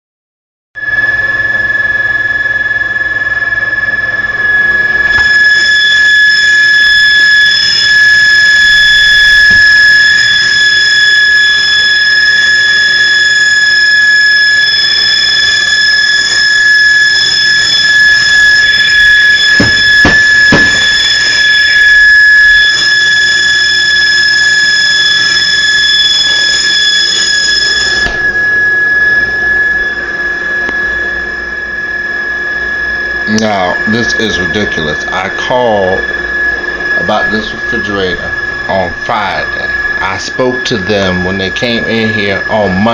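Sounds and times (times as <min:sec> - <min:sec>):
refrigerator high-pitched whine: 0:00.8 - 0:42.9.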